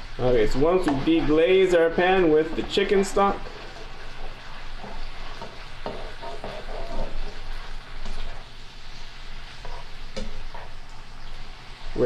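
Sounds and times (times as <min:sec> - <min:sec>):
stock sizzling in a skillet: 0:00.0 - 0:12.0
spatula scraping a pan: 0:00.6 - 0:11.6.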